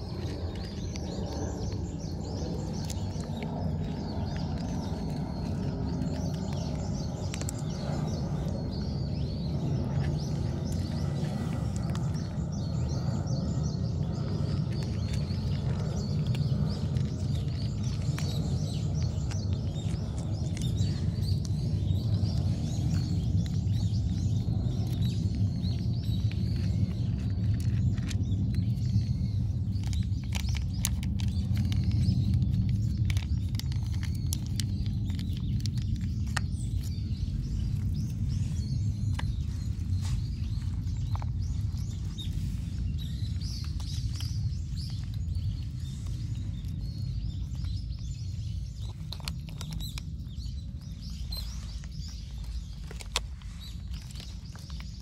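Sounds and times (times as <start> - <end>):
low outdoor rumble: 0.0 - 55.0
small birds chirping: 0.0 - 55.0.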